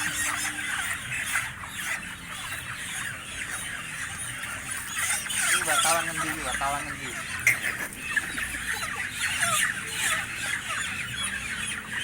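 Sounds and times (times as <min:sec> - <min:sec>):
chickens squawking and clucking: 0:00.0 - 0:12.0.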